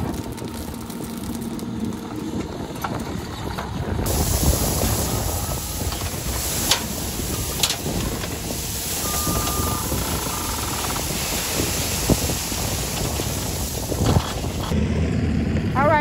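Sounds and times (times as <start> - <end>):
gravel pouring into trailer: 0.0 - 2.4, 4.0 - 14.7
loader engine running: 0.0 - 16.0.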